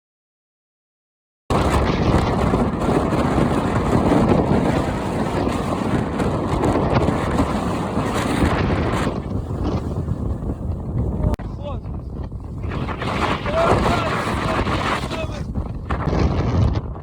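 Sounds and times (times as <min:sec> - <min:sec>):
wind buffeting microphone: 0:01.5 - 0:17.0.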